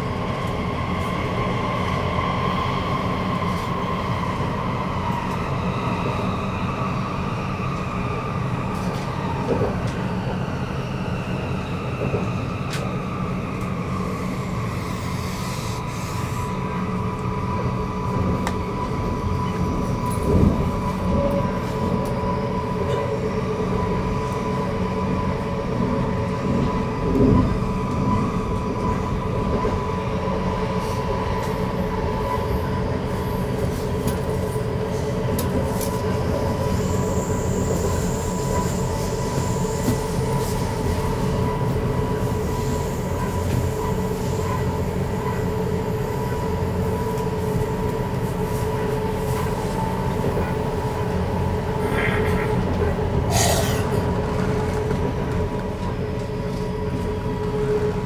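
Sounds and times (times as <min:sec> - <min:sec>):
constant train whine: 0:00.0 - 0:58.0
train wheels rumbling: 0:00.0 - 0:58.0.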